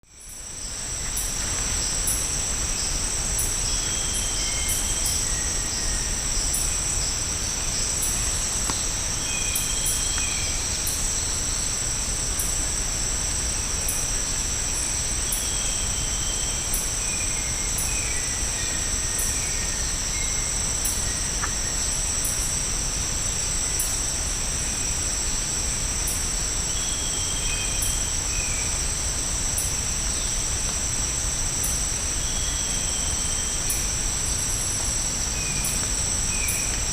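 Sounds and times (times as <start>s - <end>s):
insect drone: 0.0s - 36.9s
insect chirping: 0.1s - 36.9s.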